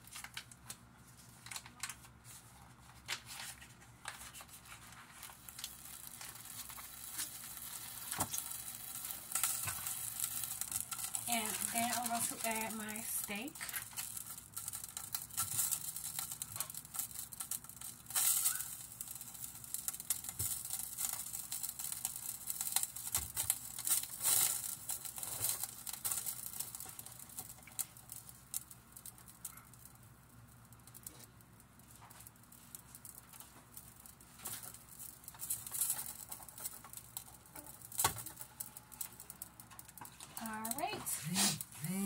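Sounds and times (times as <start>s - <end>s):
steak crackling in butter: 4.7s - 42.0s.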